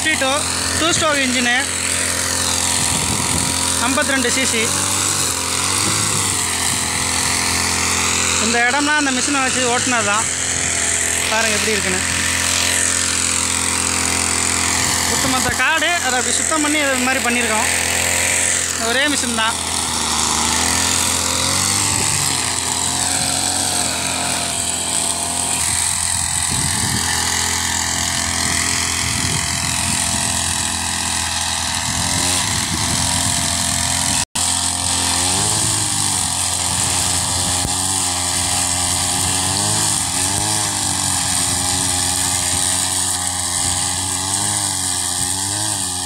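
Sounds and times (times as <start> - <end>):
brushcutter engine running at high speed: 0.0 - 46.0.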